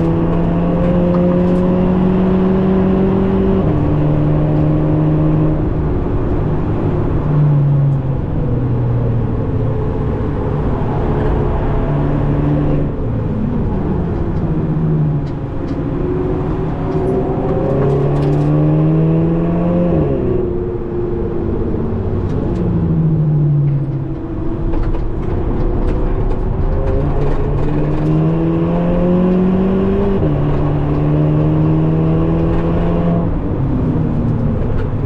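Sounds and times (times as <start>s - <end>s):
car engine at speed: 0.0s - 35.0s
road and tyre noise: 0.0s - 35.0s.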